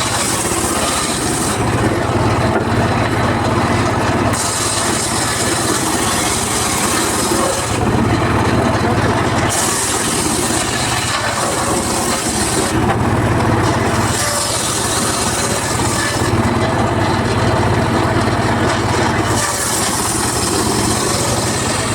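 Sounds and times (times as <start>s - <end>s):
circular saw running hum: 0.0s - 21.9s
saw blade ripping wood: 0.0s - 21.9s.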